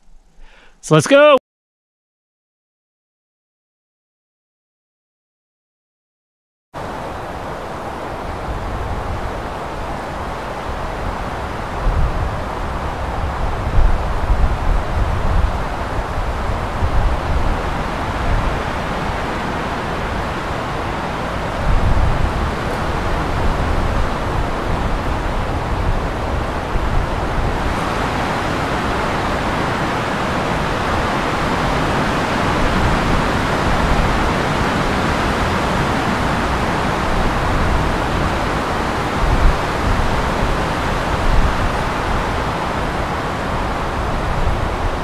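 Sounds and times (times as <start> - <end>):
rushing wind: 6.8 - 45.0
wind buffeting microphone: 6.8 - 45.0.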